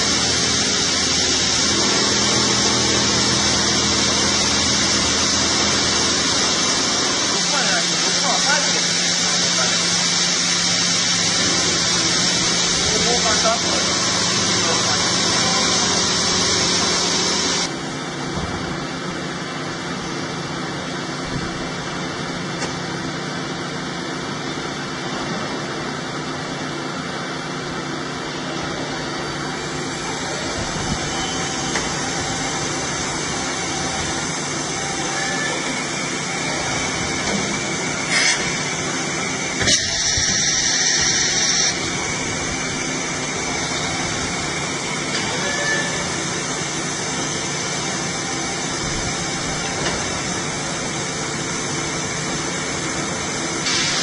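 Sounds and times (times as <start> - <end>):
milling machine drone with hiss: 0.0 - 54.0.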